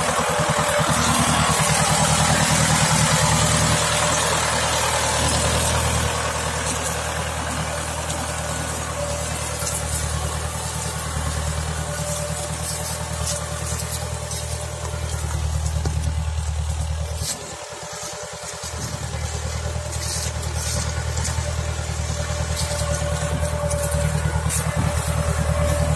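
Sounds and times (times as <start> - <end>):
tractor diesel engine drone: 0.0 - 25.9.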